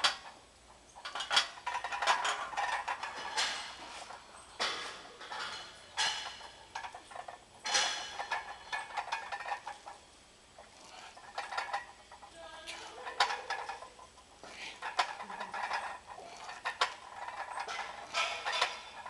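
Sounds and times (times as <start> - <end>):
weight plates clanking: 1.0 - 19.0.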